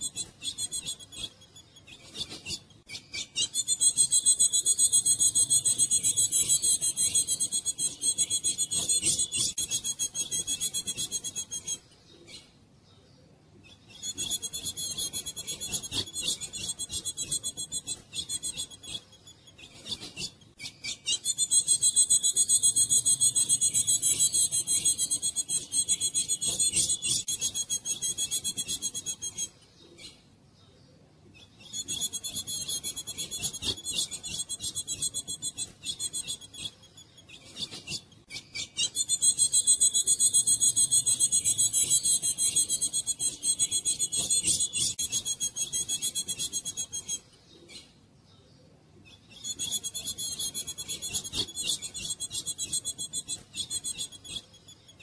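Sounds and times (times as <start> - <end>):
bird raspy high chatter: 0.0 - 11.8, 13.9 - 29.6, 31.5 - 47.3, 49.2 - 55.0.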